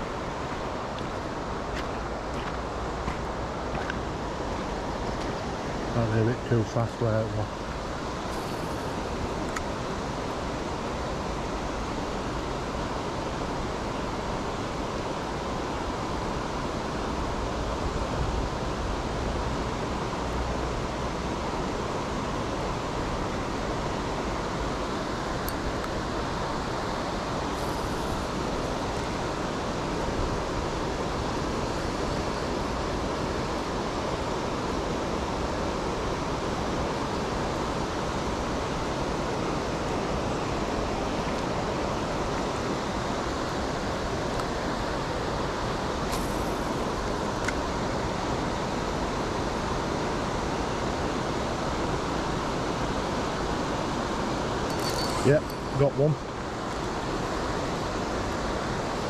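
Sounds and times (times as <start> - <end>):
river water pouring over weir: 0.0 - 59.0.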